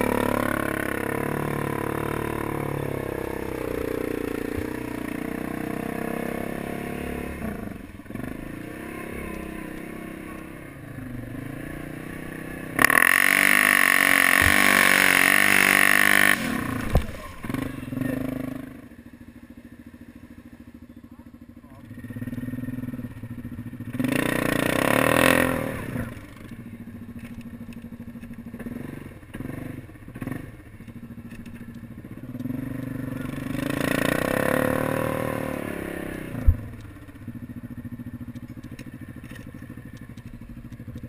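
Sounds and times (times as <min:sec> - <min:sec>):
quad bike engine in mud: 0:00.0 - 0:41.0.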